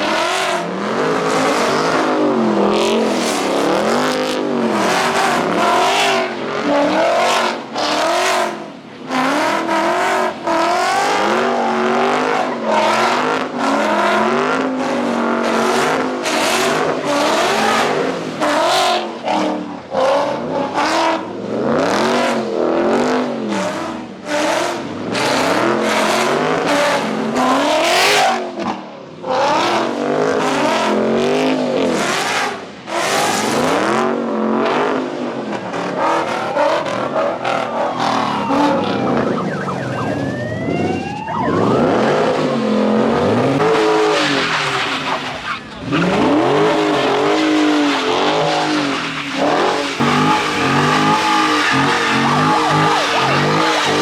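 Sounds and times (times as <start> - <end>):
car engines revving hard: 0.0 - 54.0
tire noise: 0.0 - 54.0.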